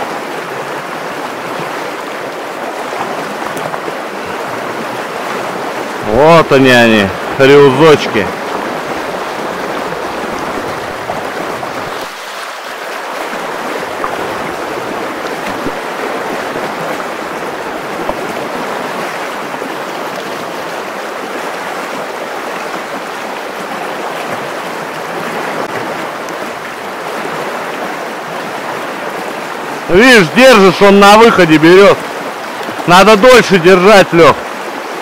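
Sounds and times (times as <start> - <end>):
river water rushing and splashing: 0.0 - 35.0.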